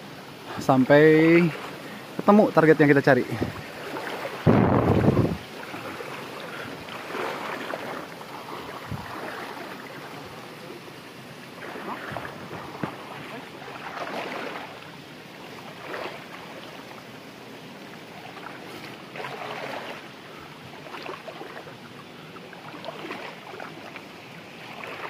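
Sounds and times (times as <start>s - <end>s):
stream rushing: 0.0s - 25.0s
splashes of wading legs: 1.1s - 2.2s, 3.3s - 25.0s.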